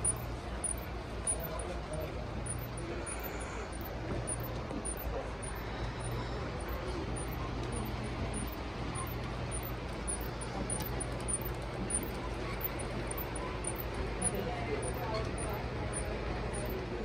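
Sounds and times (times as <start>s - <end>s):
faint voices: 0.0s - 17.0s
model steam locomotive running: 0.0s - 17.0s.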